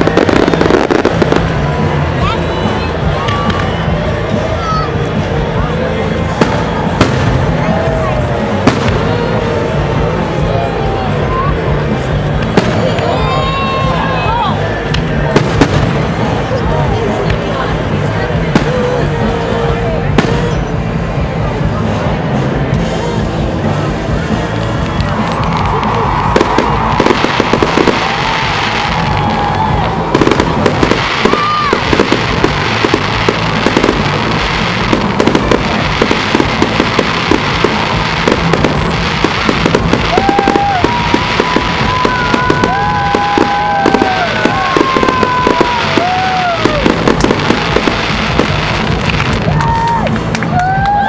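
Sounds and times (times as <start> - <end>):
fireworks bursting and crackling: 0.0 - 51.0.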